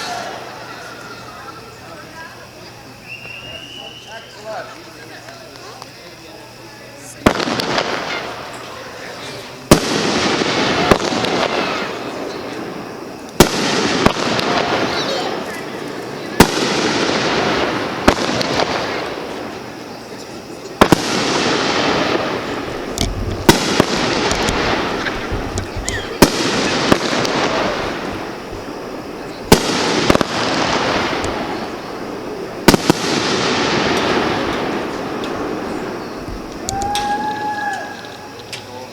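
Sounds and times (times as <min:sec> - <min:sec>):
firework bangs: 0:00.0 - 0:04.6, 0:07.1 - 0:38.4
small firework pops: 0:03.1 - 0:04.0, 0:04.7 - 0:06.2, 0:07.2 - 0:08.8, 0:09.7 - 0:38.8.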